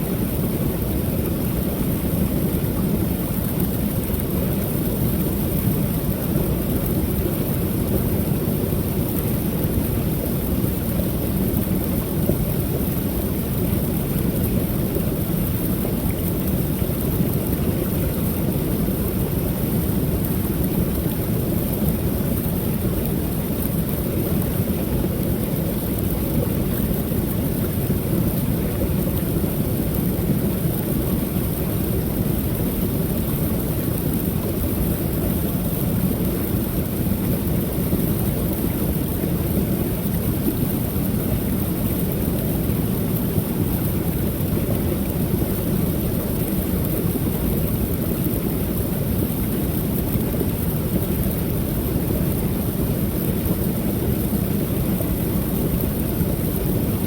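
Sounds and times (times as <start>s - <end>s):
waterfall pouring over a ledge: 0.0s - 57.0s.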